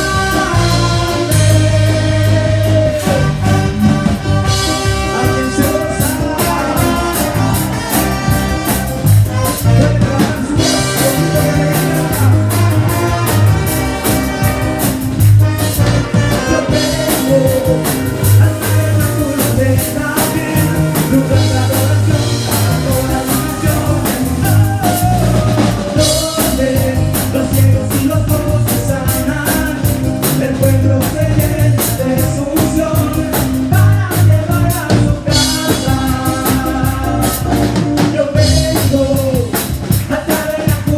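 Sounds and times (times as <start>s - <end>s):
bass: 0.0s - 40.9s
drum kit beat: 0.0s - 40.9s
person singing: 0.0s - 40.9s.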